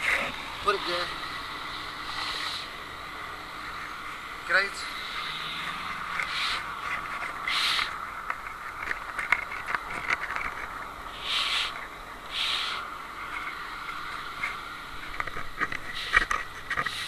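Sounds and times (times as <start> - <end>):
street background noise: 0.0 - 17.0.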